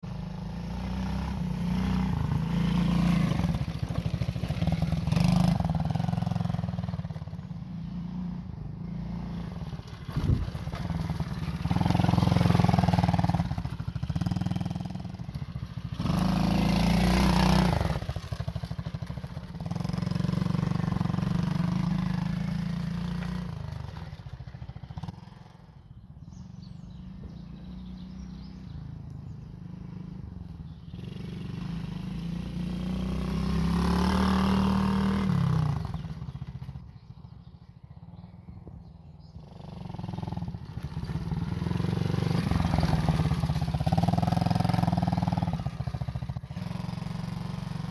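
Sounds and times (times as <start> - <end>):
quad bike engine running: 0.1 - 47.9.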